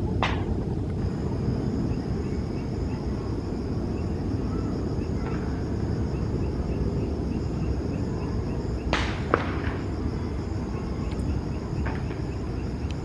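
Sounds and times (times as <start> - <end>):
distant jet engines rumbling: 0.0 - 13.0
insects trilling: 0.0 - 13.0.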